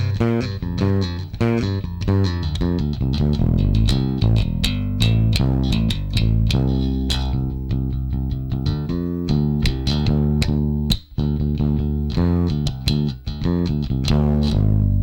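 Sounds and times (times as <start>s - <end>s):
electric bass plucked notes: 0.0s - 15.0s.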